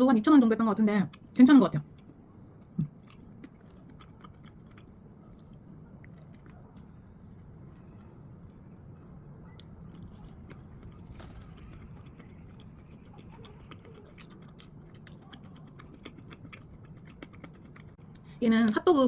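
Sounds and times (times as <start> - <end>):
close-up chewing: 1.0 - 18.8.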